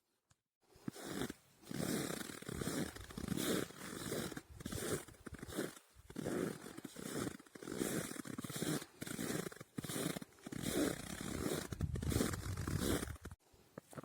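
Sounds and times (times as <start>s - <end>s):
footsteps in snow: 0.7s - 13.4s.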